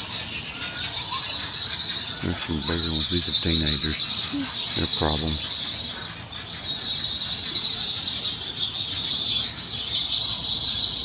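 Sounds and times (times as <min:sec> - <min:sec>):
chirring chorus of animals: 0:00.0 - 0:11.0.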